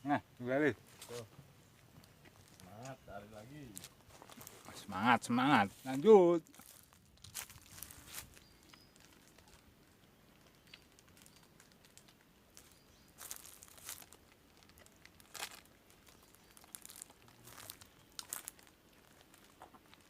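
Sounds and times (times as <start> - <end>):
faint crinkling rustles: 0.8 - 20.0.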